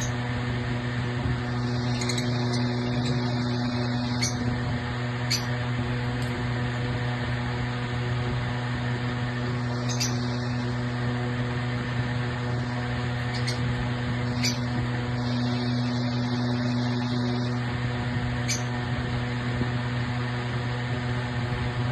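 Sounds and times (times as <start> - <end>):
machine hum: 0.0 - 21.9.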